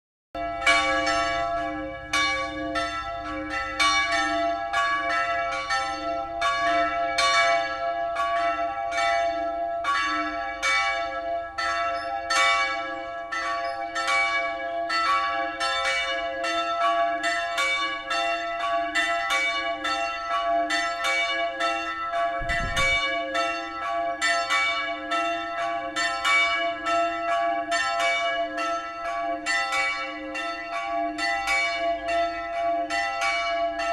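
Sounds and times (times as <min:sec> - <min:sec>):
church bells ringing: 0:00.4 - 0:33.9.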